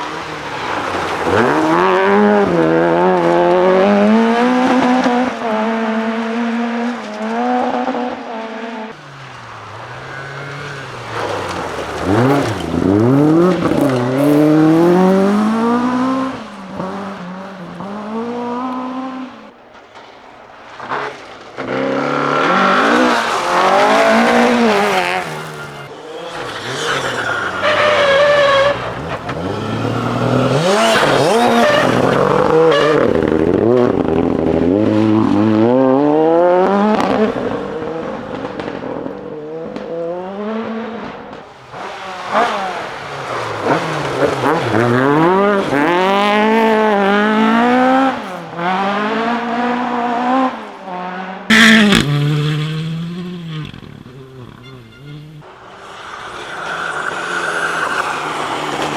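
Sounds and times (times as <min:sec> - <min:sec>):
tyres on loose gravel: 0:00.0 - 0:39.9, 0:40.6 - 0:52.7, 0:53.6 - 0:58.9
rally car engines at full throttle: 0:00.0 - 0:58.9.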